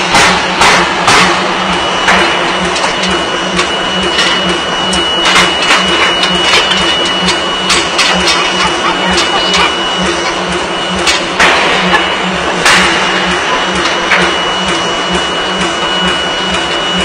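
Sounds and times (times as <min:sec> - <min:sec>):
machinery humming and whining: 0:00.0 - 0:17.0.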